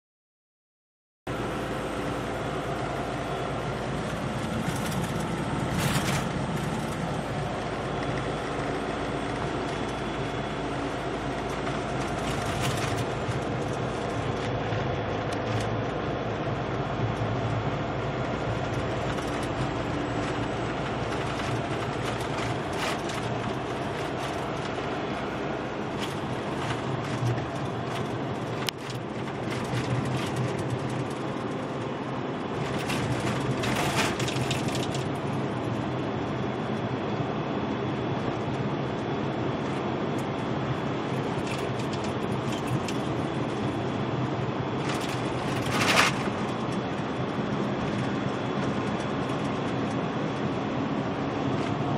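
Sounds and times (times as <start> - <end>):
truck engine and tyres droning: 1.3 - 51.9.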